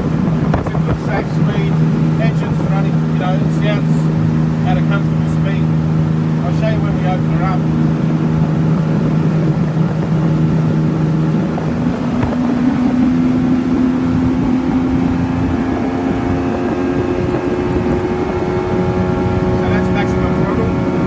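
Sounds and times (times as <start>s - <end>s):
motorboat engine running: 0.0s - 21.0s
water noise: 0.0s - 21.0s
wind: 0.0s - 21.0s.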